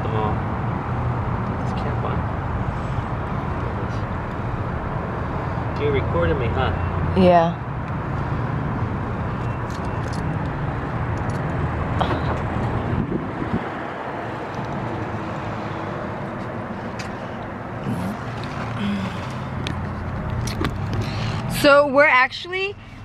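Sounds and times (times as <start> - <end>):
car engine and road noise: 0.0 - 23.0
traffic noise: 0.0 - 23.0.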